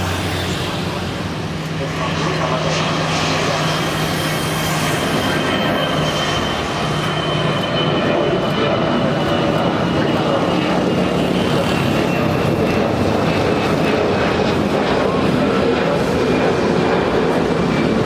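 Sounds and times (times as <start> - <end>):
jet engines roaring with whine: 0.0 - 18.0.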